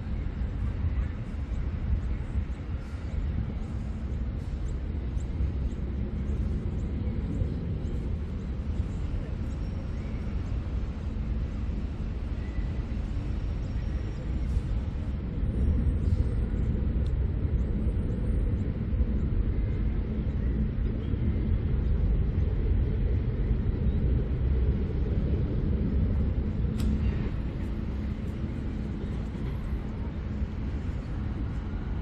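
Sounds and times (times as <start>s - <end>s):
city traffic rumble: 0.0s - 32.0s.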